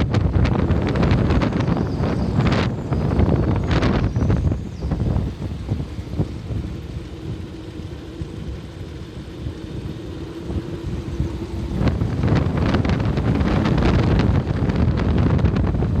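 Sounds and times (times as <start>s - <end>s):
vehicle engine rumble: 0.0s - 16.0s
wind on microphone: 0.0s - 16.0s.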